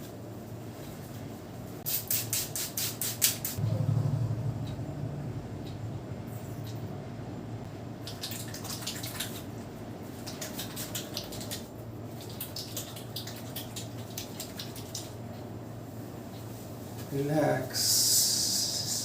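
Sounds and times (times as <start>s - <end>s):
steady low hum: 2.4s - 19.0s.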